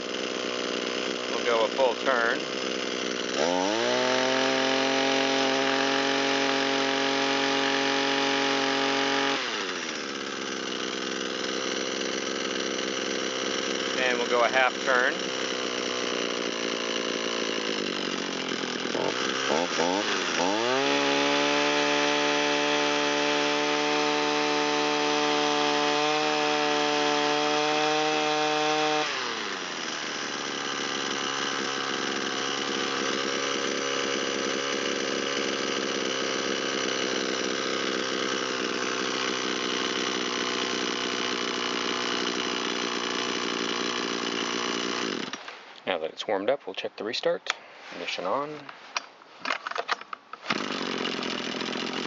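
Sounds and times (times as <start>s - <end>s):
string trimmer engine revving: 0.0s - 45.6s, 50.4s - 52.0s.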